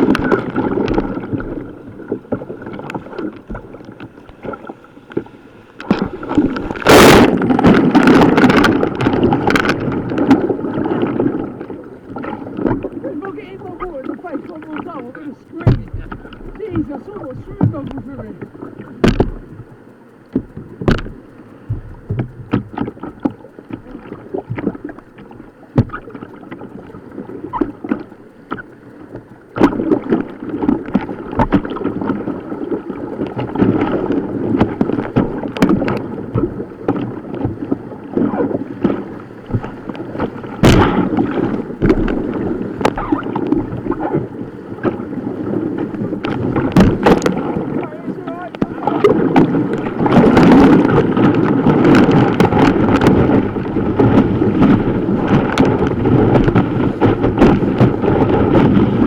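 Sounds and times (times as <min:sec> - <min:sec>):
rushing river water: 0:00.0 - 0:21.7, 0:22.7 - 0:59.0
paddle splashes and knocks: 0:00.0 - 0:59.0.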